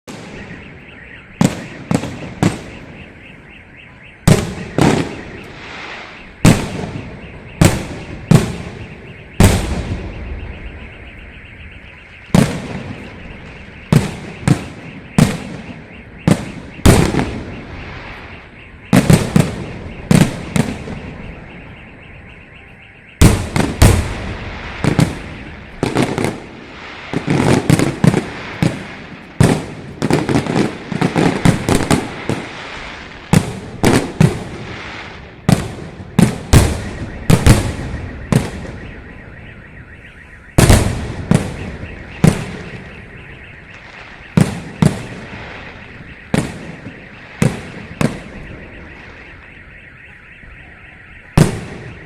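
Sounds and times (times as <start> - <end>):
fireworks bursting in bangs: 1.3 - 3.2, 4.2 - 11.0, 12.2 - 21.7, 23.2 - 39.2, 40.6 - 49.4, 51.3 - 52.0.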